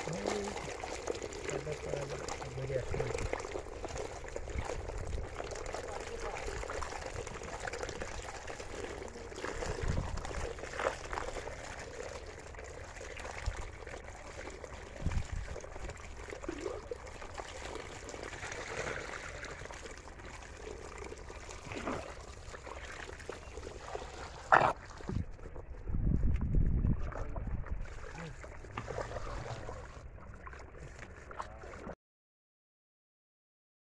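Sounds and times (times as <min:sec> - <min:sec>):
water pouring into basket: 0:00.0 - 0:25.6, 0:27.5 - 0:32.0.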